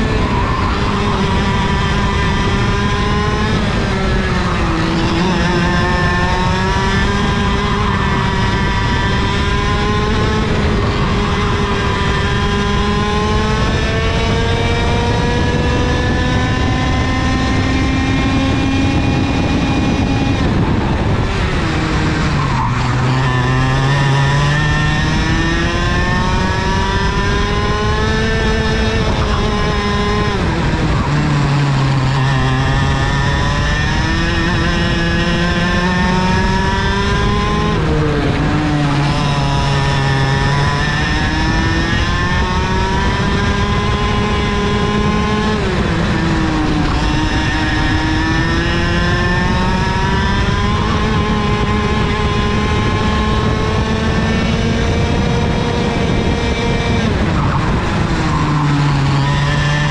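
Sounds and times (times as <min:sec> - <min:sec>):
kart engine at full throttle: 0:00.0 - 0:59.9.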